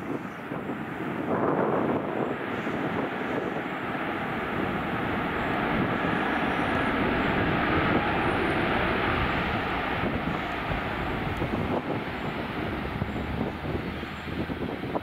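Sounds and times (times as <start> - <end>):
faint jet engine whine: 0.0 - 15.0
jet engines rushing: 0.0 - 15.0.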